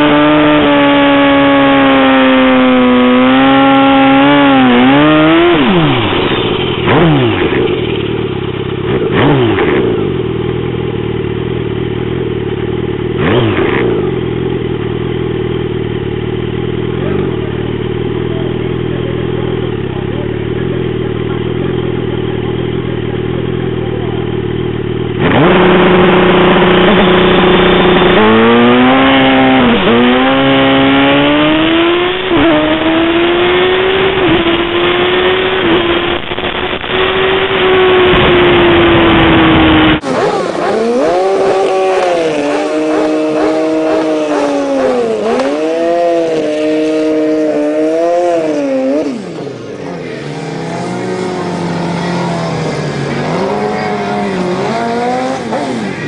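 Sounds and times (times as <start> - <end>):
motorcycle engine revving and accelerating: 0.0 - 56.0.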